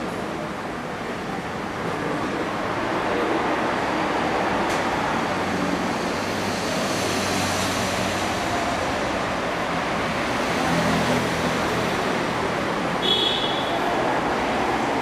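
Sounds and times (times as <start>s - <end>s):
steady rushing background noise: 0.0s - 15.0s.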